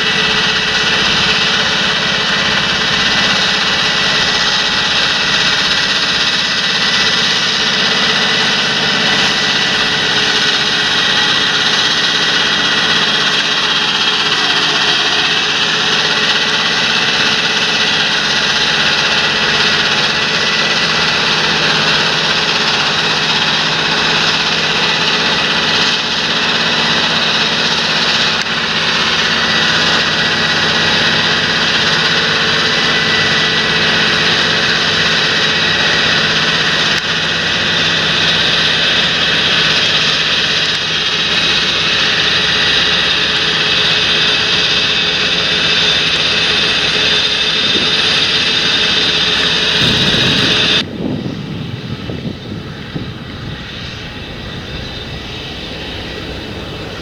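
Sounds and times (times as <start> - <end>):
high whine: 0.0 - 57.0
tractor diesel engine running: 0.0 - 57.0.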